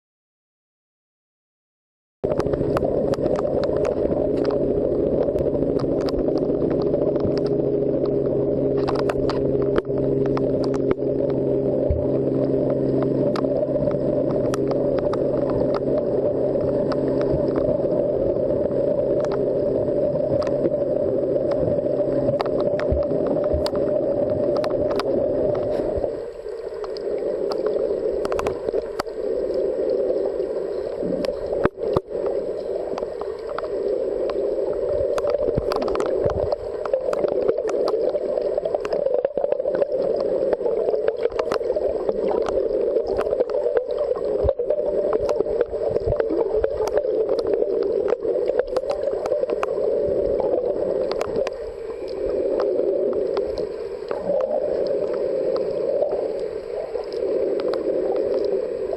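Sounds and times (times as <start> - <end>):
muffled underwater rushing: 2.2 - 58.9
underwater clicks and crackles: 2.2 - 58.9.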